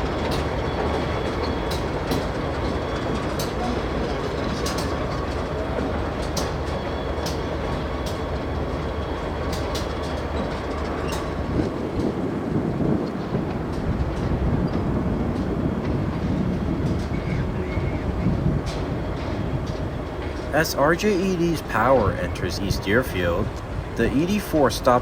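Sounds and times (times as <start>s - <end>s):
wheels clicking over rail joints: 0.0s - 20.5s
diesel locomotive engine drone: 0.0s - 25.0s.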